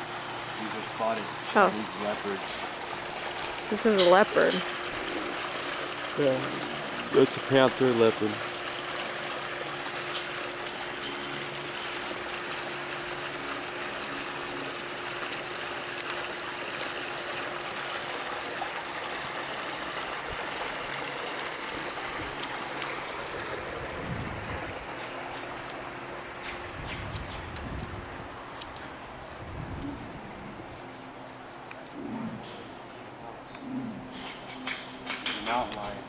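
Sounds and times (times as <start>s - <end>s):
running water rushing: 0.0s - 32.8s.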